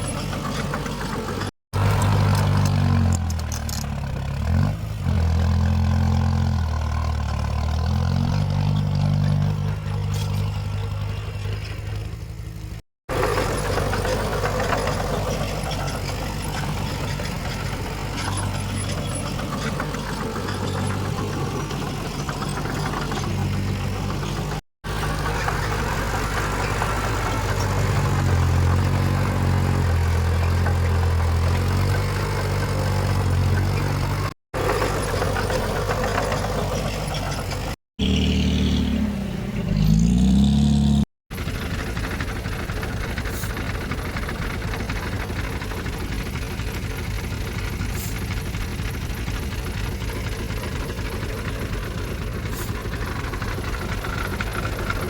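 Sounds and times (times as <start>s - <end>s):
heavy diesel machinery engines: 0.0s - 55.0s.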